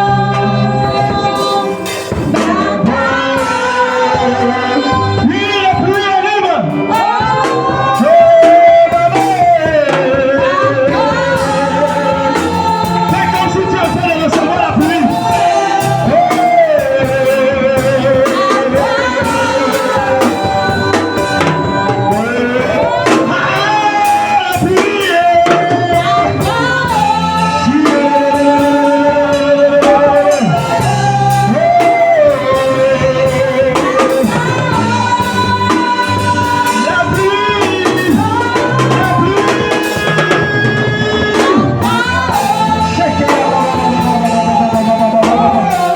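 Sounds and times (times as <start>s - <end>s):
instrumental accompaniment: 0.0s - 45.9s.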